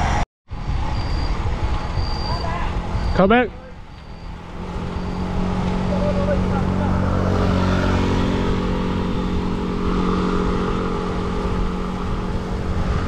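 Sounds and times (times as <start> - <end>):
low hum: 0.0 - 13.0
road noise: 0.0 - 13.0
wind rush: 0.0 - 13.0.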